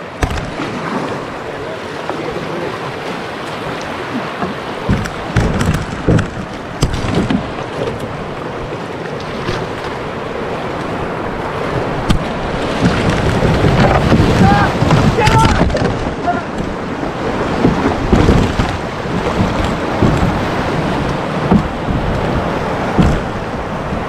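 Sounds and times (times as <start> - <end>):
paddle strokes splashing: 0.0 - 24.0
rushing whitewater: 0.0 - 24.0.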